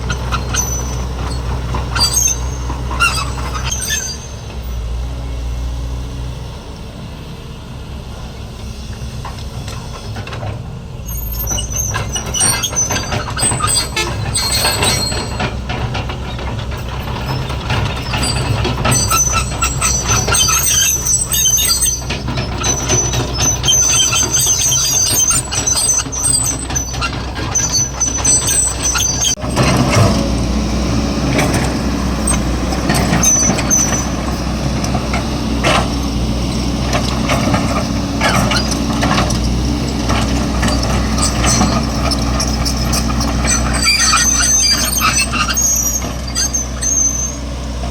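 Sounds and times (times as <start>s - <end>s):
metal squealing: 0.0s - 4.9s, 11.0s - 47.9s
excavator diesel engine running: 0.0s - 47.9s.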